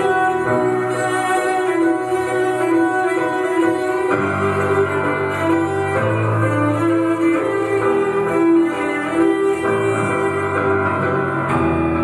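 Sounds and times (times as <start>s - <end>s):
slow melody: 0.0s - 12.0s.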